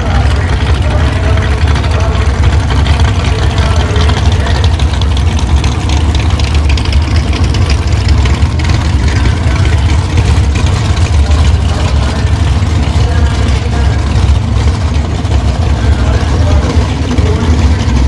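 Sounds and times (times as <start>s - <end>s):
car engine idling loudly: 0.0s - 18.0s.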